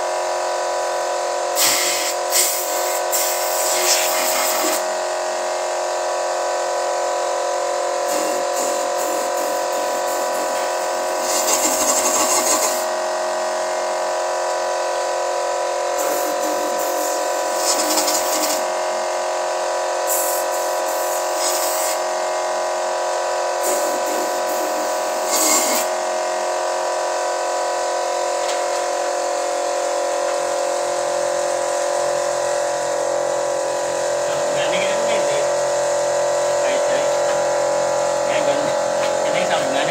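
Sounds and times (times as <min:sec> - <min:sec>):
high-pitched mechanical drone: 0:00.0 - 0:39.9.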